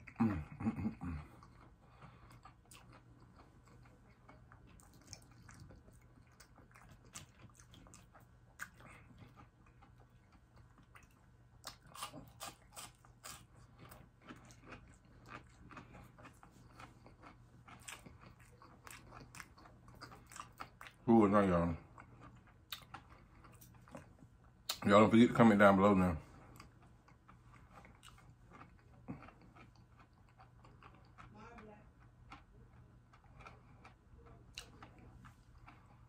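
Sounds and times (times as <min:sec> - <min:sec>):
crunchy chewing: 0:00.0 - 0:24.9, 0:25.8 - 0:36.0
steady low hum: 0:00.0 - 0:36.0.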